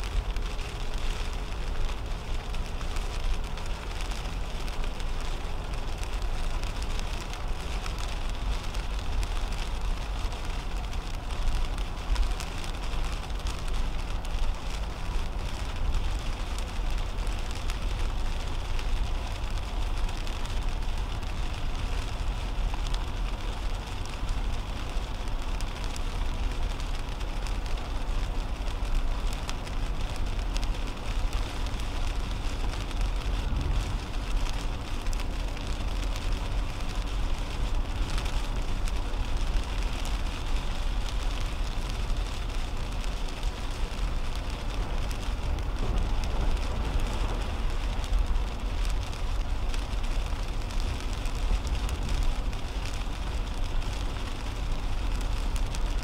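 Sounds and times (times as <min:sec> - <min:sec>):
low road rumble: 0:00.0 - 0:56.0
rain hitting windshield: 0:00.0 - 0:56.0
tyres hissing on wet road: 0:00.0 - 0:56.0.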